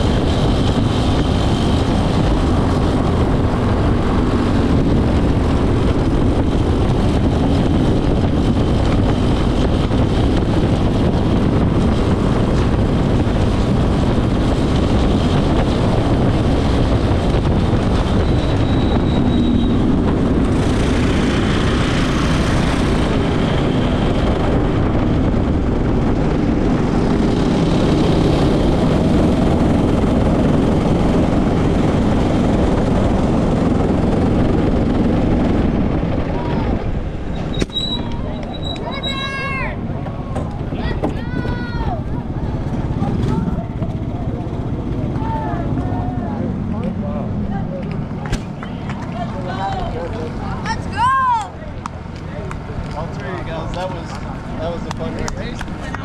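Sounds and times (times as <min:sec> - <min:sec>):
go-kart engine running: 0:00.0 - 0:56.0
track noise: 0:00.0 - 0:56.0
wind rush: 0:00.0 - 0:56.0.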